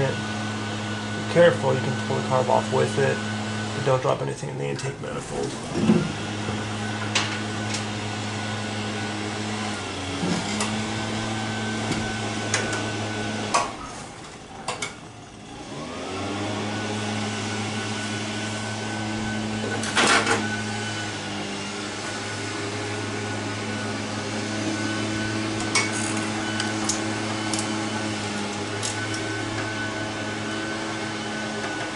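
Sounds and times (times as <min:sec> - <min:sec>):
machine motor humming: 0:00.0 - 0:31.9.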